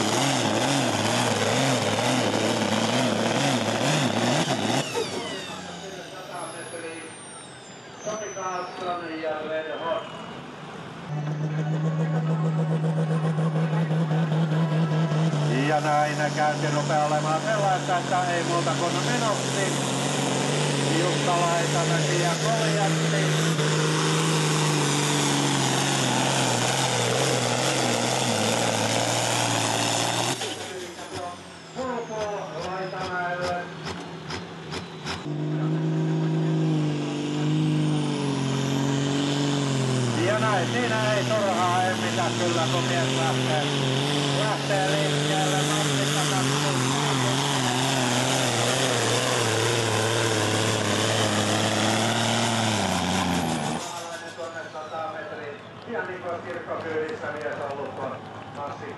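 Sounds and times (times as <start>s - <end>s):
tractor diesel engine drone: 0.0s - 58.9s.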